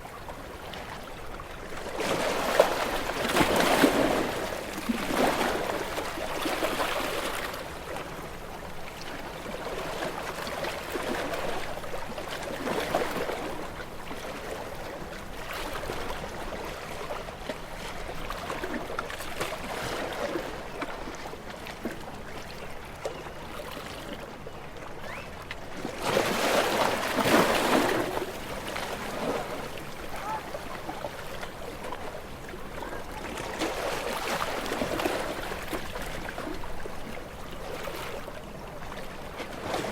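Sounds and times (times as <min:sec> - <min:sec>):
gentle sea waves washing ashore: 0:00.0 - 0:39.9.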